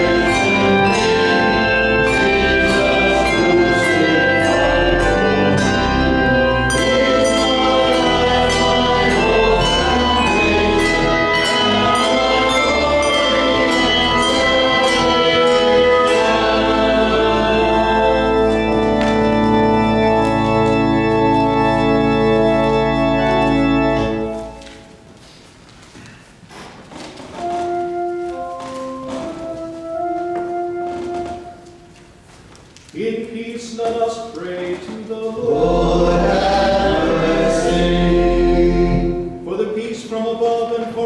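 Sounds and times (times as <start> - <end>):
church organ playing: 0.0 - 25.4, 27.3 - 32.4, 35.3 - 41.0.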